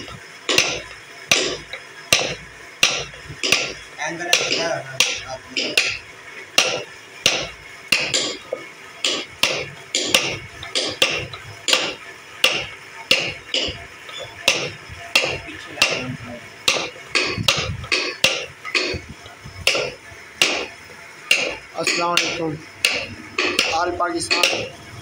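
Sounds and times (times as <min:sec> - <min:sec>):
mallet tapping wooden chisel: 0:00.0 - 0:06.0, 0:06.6 - 0:20.7, 0:21.3 - 0:24.7.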